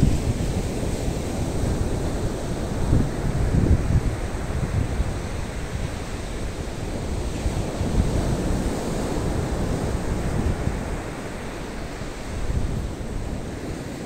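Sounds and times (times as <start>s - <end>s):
surf breaking on a beach: 0.0s - 14.0s
wind buffeting microphone: 0.0s - 14.0s.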